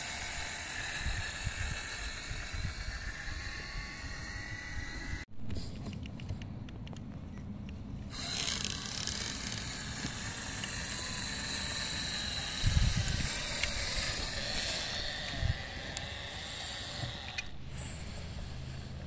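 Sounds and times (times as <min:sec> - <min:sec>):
toy car motors whining: 0:00.0 - 0:05.3, 0:08.1 - 0:19.0.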